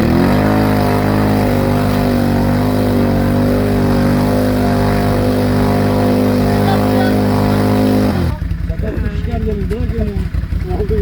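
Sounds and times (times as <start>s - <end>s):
atv engine at high revs: 0.0s - 11.0s.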